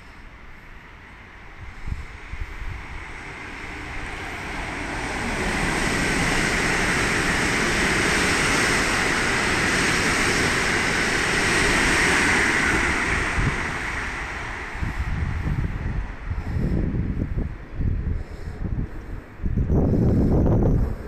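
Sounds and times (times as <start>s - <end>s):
train wheels rolling on rail: 0.0s - 21.0s.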